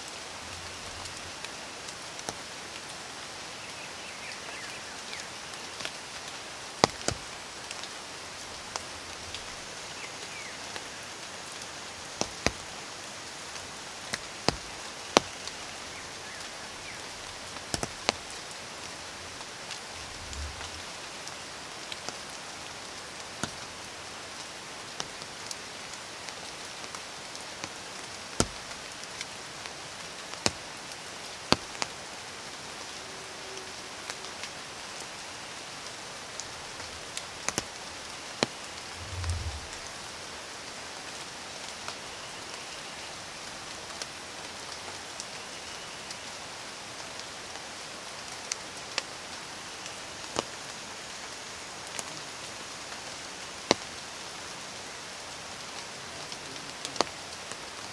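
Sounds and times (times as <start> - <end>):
rain hissing: 0.0 - 57.9.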